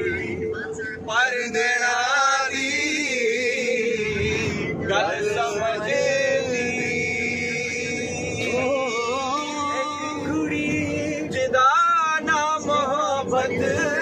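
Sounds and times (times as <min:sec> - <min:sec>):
men singing together: 0:01.1 - 0:14.0.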